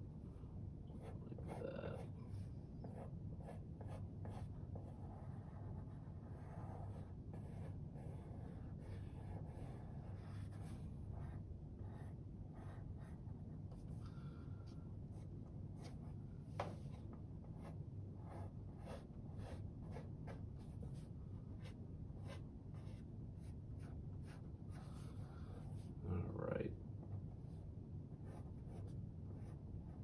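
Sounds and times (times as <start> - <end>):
steady low hum: 0.0 - 30.0
pencil scratching on paper: 0.9 - 14.0, 15.1 - 26.0, 28.1 - 30.0.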